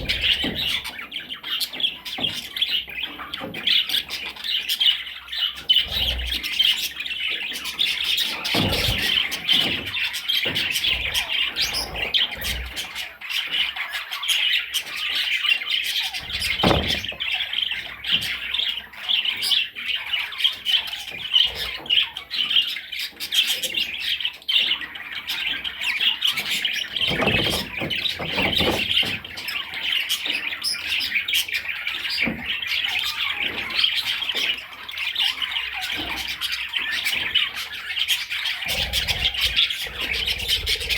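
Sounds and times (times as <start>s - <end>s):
budgerigar chattering: 0.0s - 40.9s.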